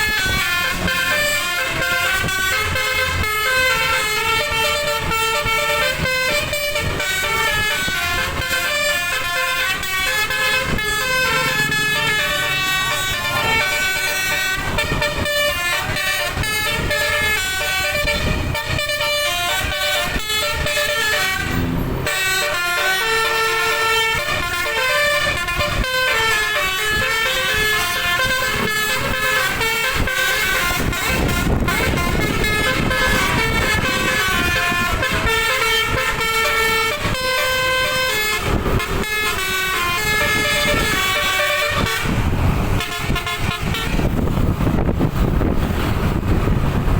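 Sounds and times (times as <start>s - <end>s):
bus air horn playing tunes: 0.0s - 46.6s.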